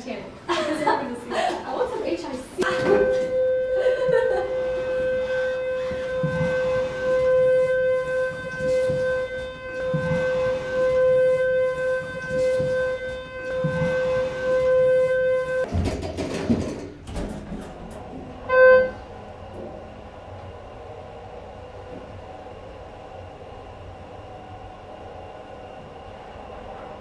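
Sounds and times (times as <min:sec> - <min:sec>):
steady electronic tone: 0:02.6 - 0:15.7, 0:18.0 - 0:27.0.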